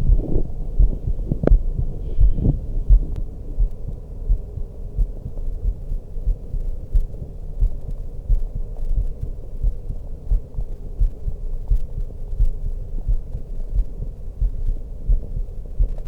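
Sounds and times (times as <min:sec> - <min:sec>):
faint steady hum: 0:00.0 - 0:16.0
heartbeat through stethoscope: 0:00.0 - 0:16.0.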